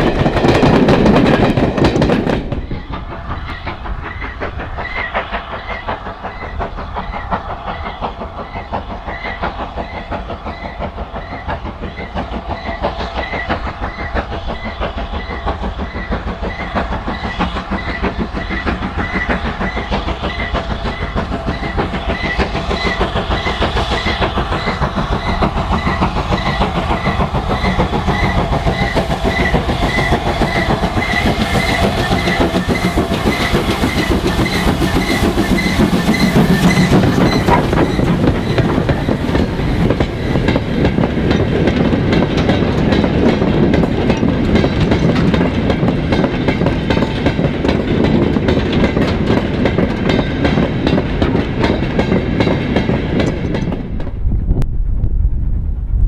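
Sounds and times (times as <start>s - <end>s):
train wheels clattering over rails: 0.0s - 54.4s.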